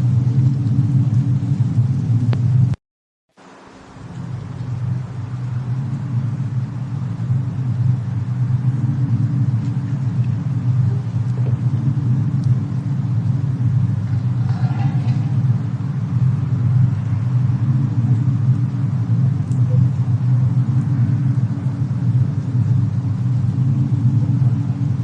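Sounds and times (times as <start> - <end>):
low storm rumble: 0.0 - 2.8, 3.4 - 25.0
faint fire crackles: 0.0 - 25.0.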